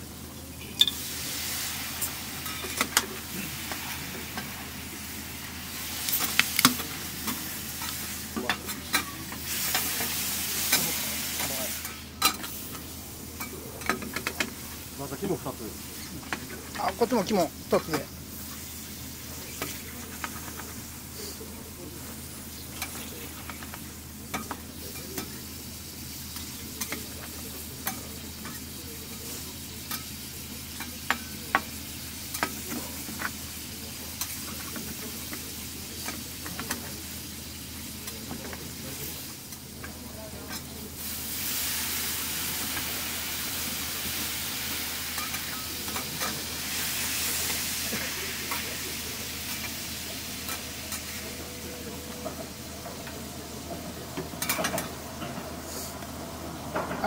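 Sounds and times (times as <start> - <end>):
offal sizzling on a griddle: 0.1 - 56.0.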